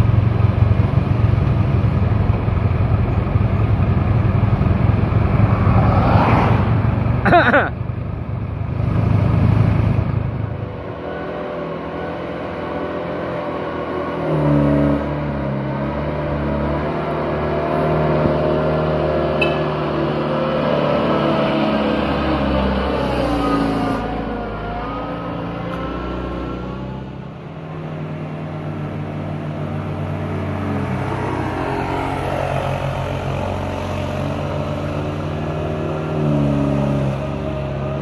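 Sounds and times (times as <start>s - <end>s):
motorcycle engine: 0.0s - 38.0s
road and wind noise: 0.0s - 38.0s
truck engine hum: 0.0s - 38.0s.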